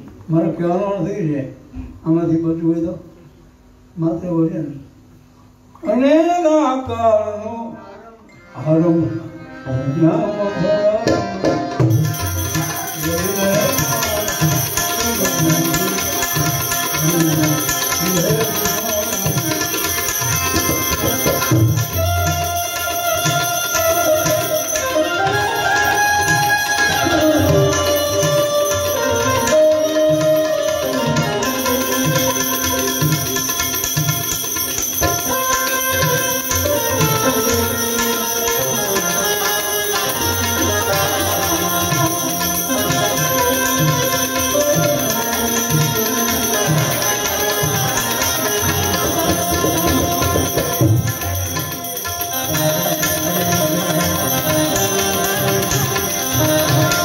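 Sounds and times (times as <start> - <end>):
harmonium melody: 6.4 - 57.0
tabla rhythm: 8.3 - 57.0.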